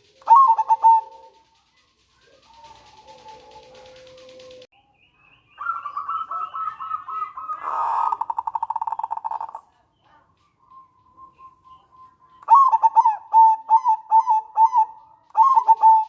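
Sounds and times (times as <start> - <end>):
dove cooing and trilling: 0.0 - 4.7, 5.6 - 9.6, 10.2 - 16.0.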